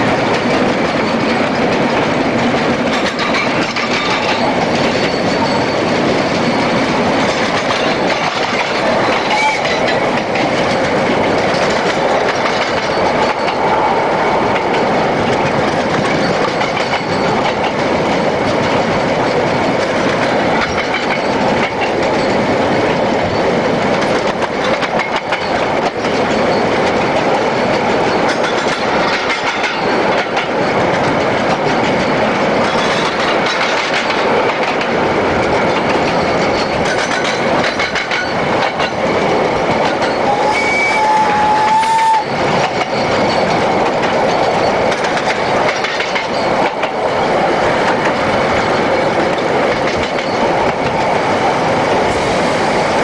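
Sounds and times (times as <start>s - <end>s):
steam locomotive wheels rattling: 0.0s - 53.0s.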